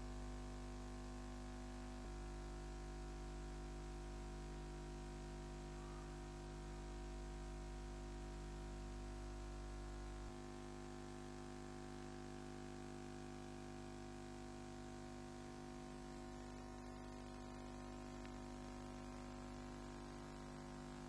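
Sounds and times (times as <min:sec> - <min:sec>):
faint steady hum with hiss: 0:00.0 - 0:21.0.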